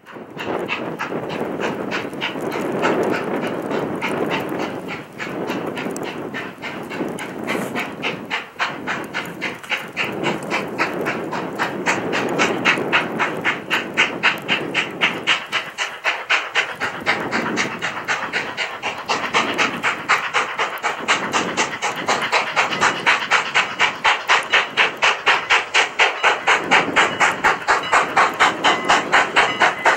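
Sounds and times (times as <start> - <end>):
steam locomotive exhaust chuffing: 0.0 - 29.9.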